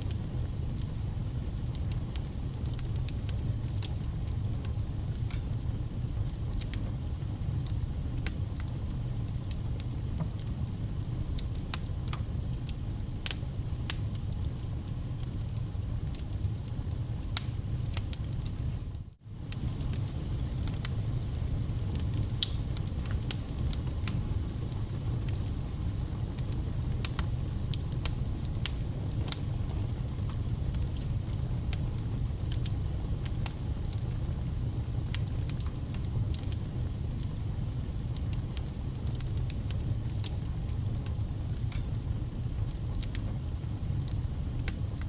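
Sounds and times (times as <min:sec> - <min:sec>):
burning logs crackling and popping: 0:00.0 - 0:45.0
low rumble of flames: 0:00.0 - 0:45.0.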